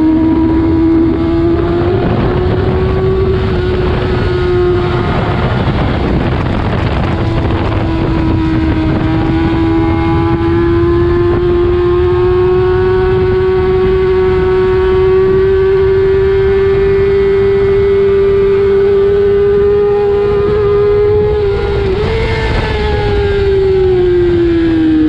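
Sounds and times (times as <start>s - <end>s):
motorcycle engine revving high: 0.0s - 25.0s
wind buffeting microphone: 0.0s - 25.0s.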